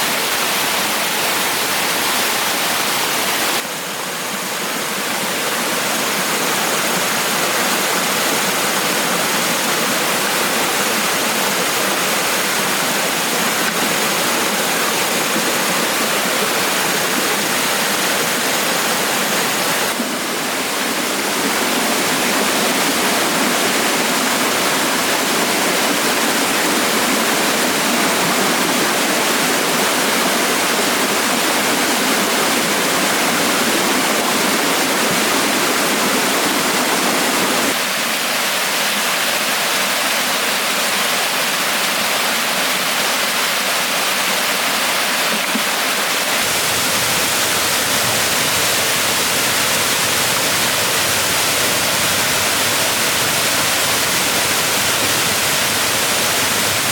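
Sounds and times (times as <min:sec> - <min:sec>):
flowing water rushing: 0:00.0 - 0:56.9.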